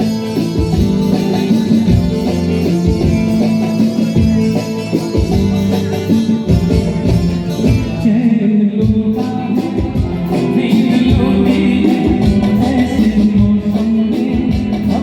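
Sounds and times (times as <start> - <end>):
person singing with instruments: 0.0 - 15.0.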